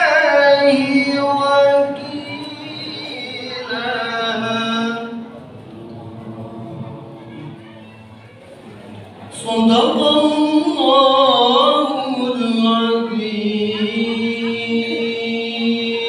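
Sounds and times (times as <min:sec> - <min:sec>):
man chanting into microphone: 0:00.0 - 0:07.6, 0:09.3 - 0:16.0.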